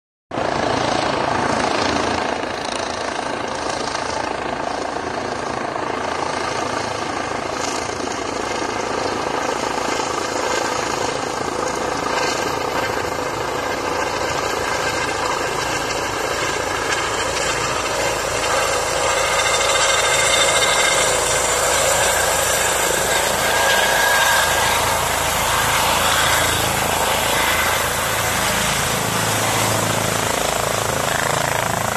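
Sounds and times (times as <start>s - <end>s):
helicopter rotor and turbine: 0.3s - 31.9s.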